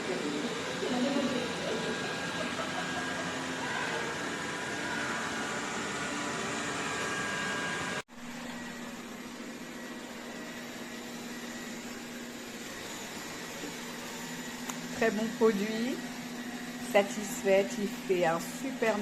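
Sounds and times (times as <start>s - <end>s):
robot vacuum cleaner whirring: 0.0s - 19.0s.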